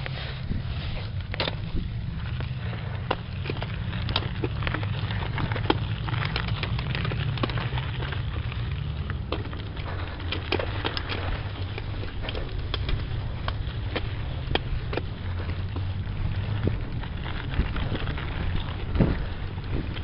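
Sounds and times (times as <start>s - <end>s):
bike tyres rattling over rough ground: 0.0s - 20.0s
steady low rumble: 0.0s - 20.0s.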